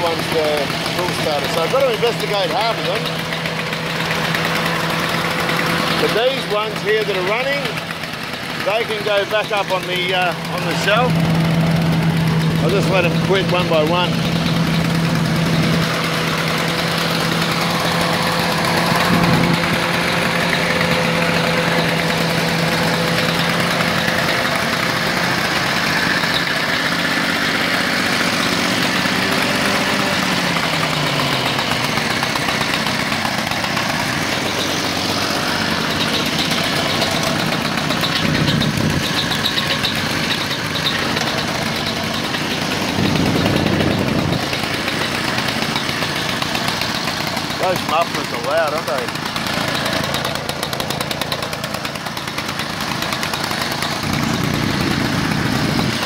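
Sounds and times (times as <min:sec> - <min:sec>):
engine slowing and stopping: 0:00.0 - 0:56.0
lawn mower engines idling: 0:00.0 - 0:56.0.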